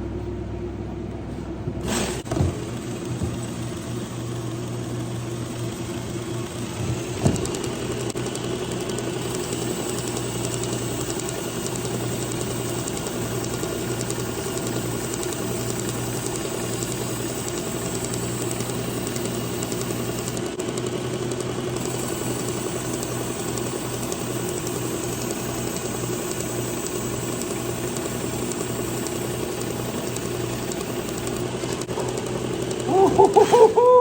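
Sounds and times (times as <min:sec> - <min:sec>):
electric belt sharpener running: 0:01.8 - 0:34.0.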